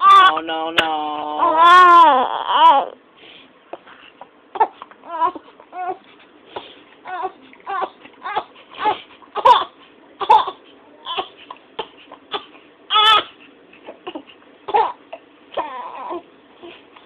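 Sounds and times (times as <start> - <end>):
baby fussing and crying: 0.0 - 3.0, 4.5 - 6.1, 7.0 - 17.0.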